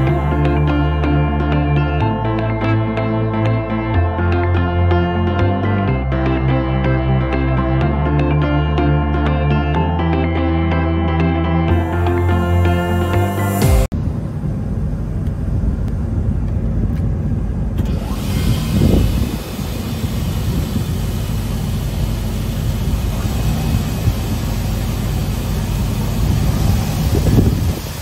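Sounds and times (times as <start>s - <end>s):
planer machine drone: 0.0s - 28.0s.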